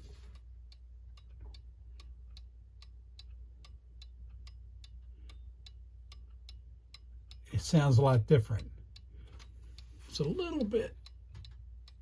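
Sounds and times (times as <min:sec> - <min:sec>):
mechanical clock ticking: 0:00.0 - 0:12.0.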